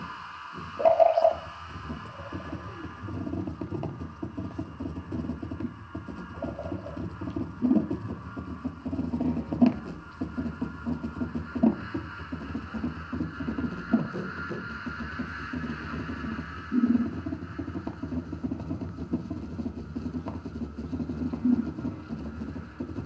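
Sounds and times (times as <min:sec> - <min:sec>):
faint high hum: 0:00.0 - 0:23.0
irregular crackling and rumbling: 0:00.0 - 0:23.0.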